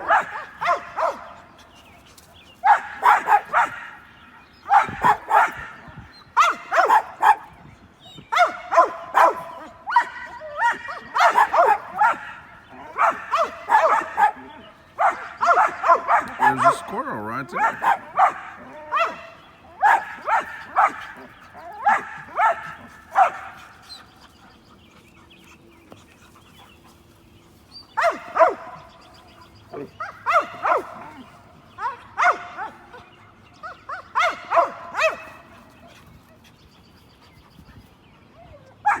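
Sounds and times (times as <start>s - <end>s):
dogs barking: 0.0s - 1.8s, 2.6s - 7.6s, 8.2s - 25.5s, 26.2s - 36.6s, 38.6s - 39.0s.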